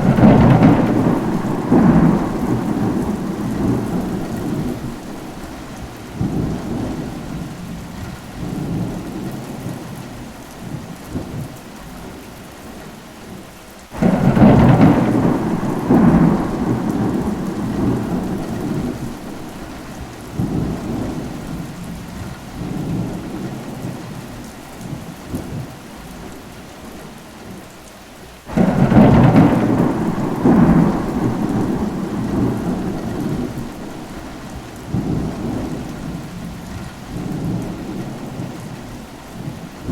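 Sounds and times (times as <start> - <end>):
thunder claps and rumbles: 0.0 - 12.2, 14.0 - 26.4, 28.5 - 39.9
steady rain: 0.0 - 39.9.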